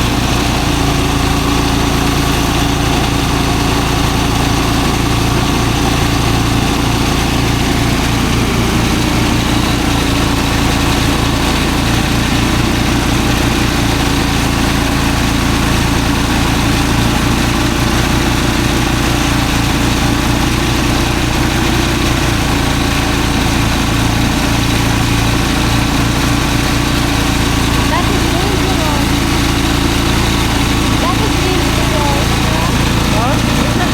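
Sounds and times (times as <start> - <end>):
threshing machine engine drone: 0.0 - 33.9.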